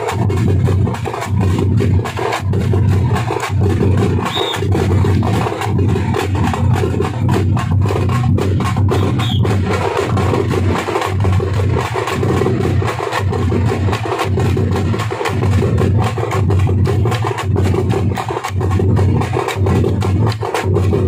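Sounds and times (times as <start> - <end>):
steady drumming: 0.0 - 21.0.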